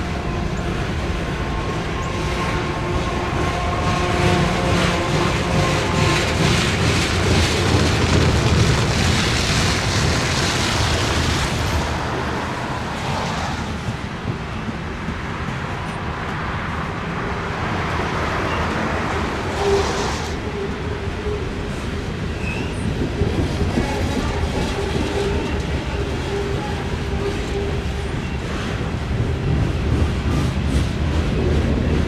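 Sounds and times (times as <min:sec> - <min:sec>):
diesel locomotive tones: 0:00.0 - 0:32.0
freight train rumbling past: 0:00.0 - 0:32.0.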